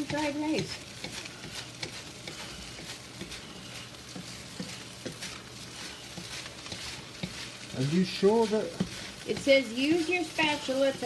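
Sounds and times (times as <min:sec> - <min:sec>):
rice sizzling in a wok: 0:00.0 - 0:11.0
spatula scraping a pan: 0:00.0 - 0:11.0.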